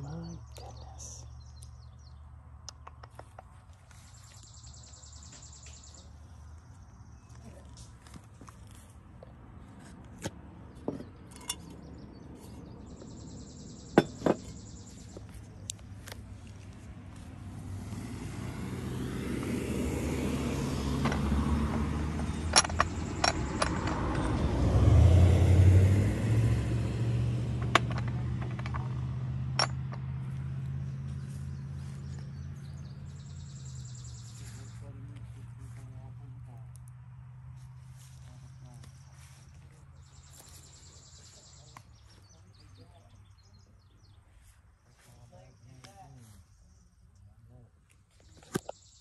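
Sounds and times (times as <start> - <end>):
car engine rumbling: 0.0 - 49.0.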